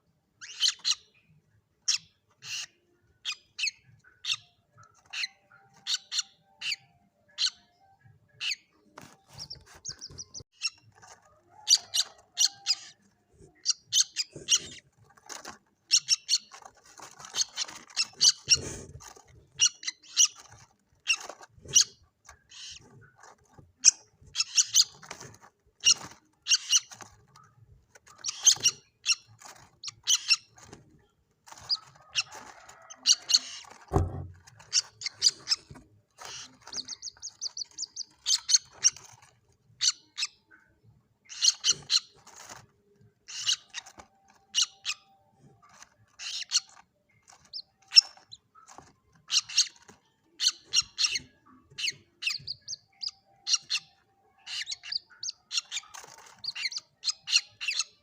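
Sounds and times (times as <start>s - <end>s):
moorhen chicks peeping: 0.0s - 58.0s.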